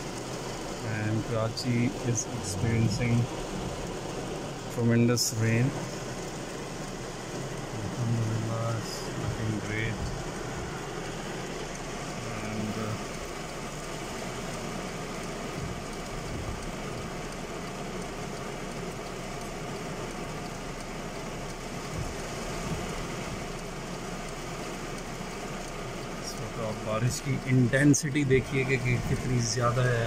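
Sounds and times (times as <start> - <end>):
heavy rain on car roof: 0.0 - 30.0
low steady rumble: 0.0 - 30.0.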